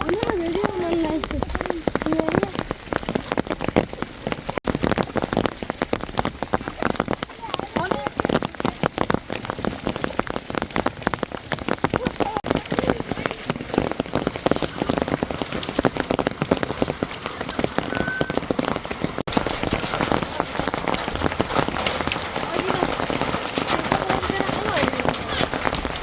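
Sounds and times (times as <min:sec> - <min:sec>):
rain and hail striking a surface: 0:00.0 - 0:26.0.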